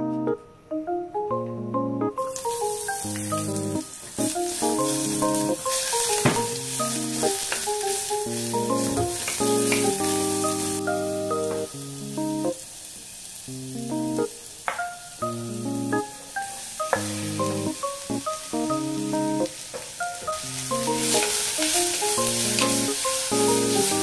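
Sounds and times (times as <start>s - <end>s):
aromatics sizzling in hot oil: 2.2s - 24.0s.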